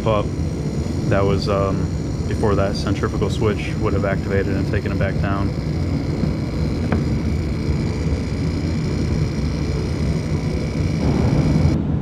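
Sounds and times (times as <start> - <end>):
electric motor humming: 0.0 - 12.0
high motor whine: 0.0 - 12.0.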